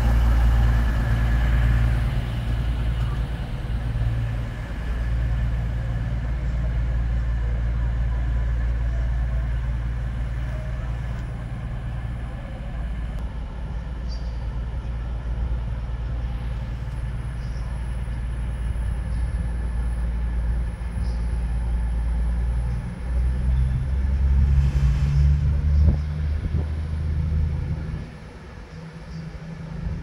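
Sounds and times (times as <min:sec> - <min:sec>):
diesel train engine droning: 0:00.0 - 0:30.0.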